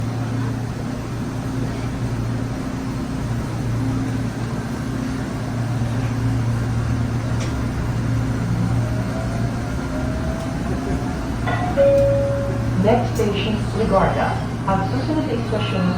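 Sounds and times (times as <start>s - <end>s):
light-rail train electric hum: 0.0s - 15.9s.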